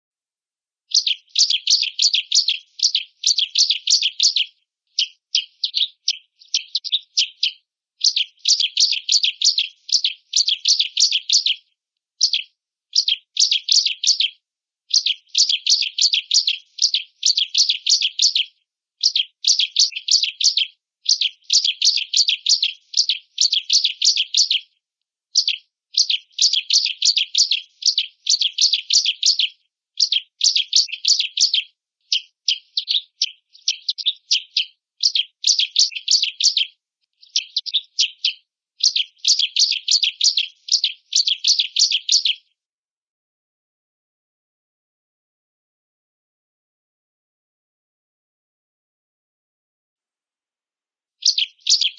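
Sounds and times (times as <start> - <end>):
bird singing high chirps: 0.9 - 42.5, 51.2 - 51.9.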